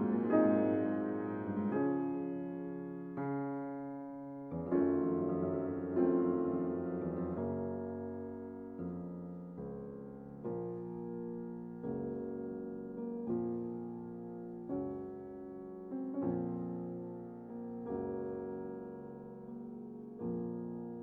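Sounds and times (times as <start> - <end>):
slow soft piano chords: 0.0 - 21.0.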